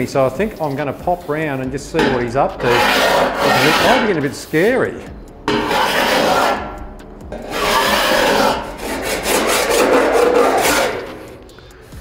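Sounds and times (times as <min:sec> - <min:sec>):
file scraping steel: 0:01.9 - 0:11.5.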